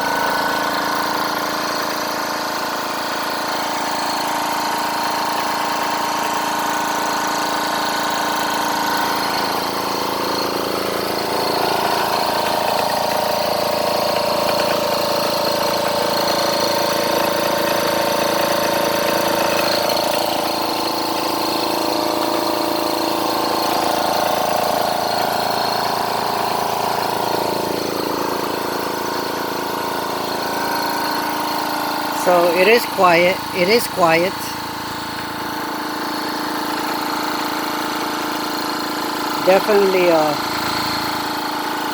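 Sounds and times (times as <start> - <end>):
air compressor humming: 0.0 - 41.9.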